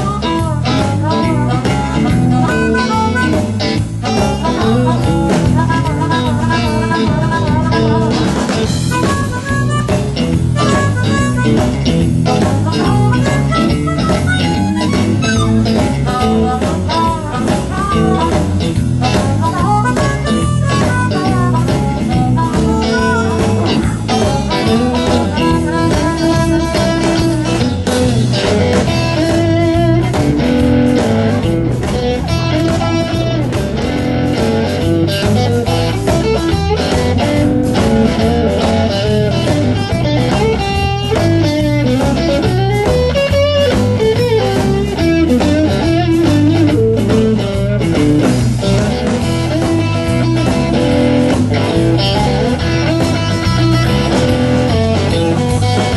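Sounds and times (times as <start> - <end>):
blues band playing: 0.0 - 55.9
electric guitar lead runs: 0.0 - 55.9.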